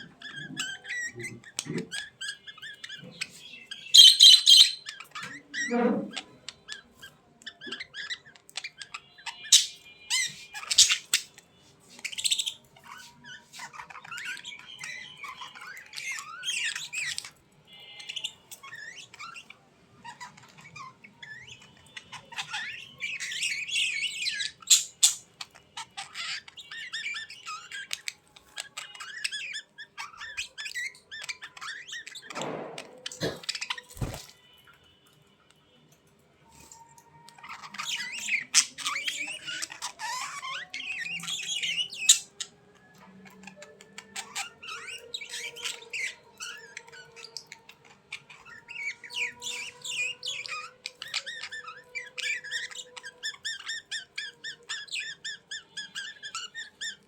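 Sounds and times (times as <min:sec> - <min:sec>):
birds chirping and squawking: 0:00.0 - 0:57.0.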